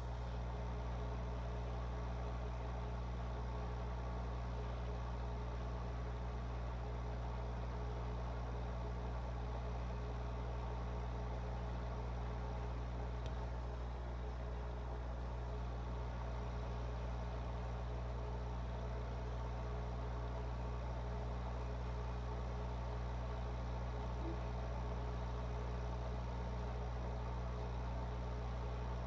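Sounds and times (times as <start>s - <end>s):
aquarium pump humming: 0.0s - 29.0s.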